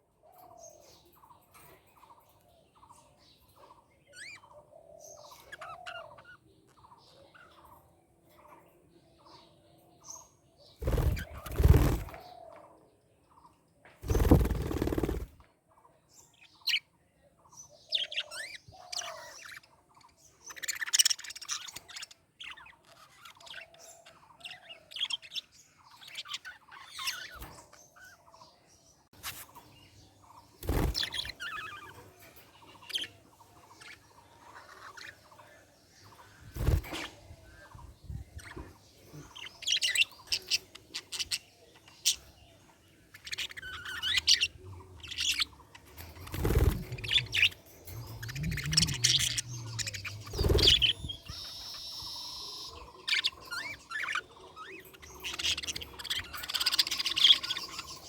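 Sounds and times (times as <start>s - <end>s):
budgerigars chirping and warbling: 0.0s - 12.8s, 13.4s - 58.0s.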